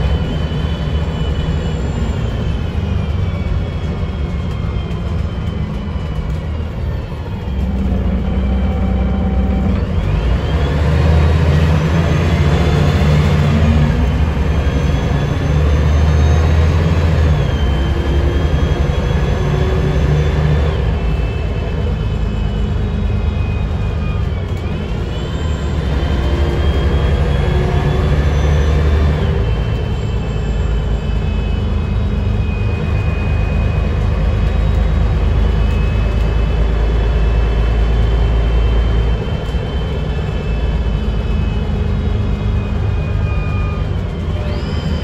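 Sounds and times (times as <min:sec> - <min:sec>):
bus driveline whine: 0:00.0 - 0:45.0
bus engine rumble: 0:00.0 - 0:45.0.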